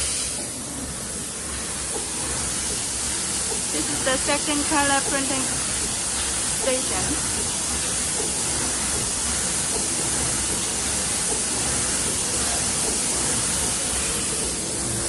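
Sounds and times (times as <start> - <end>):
screen-printing machine hissing: 0.0 - 15.0.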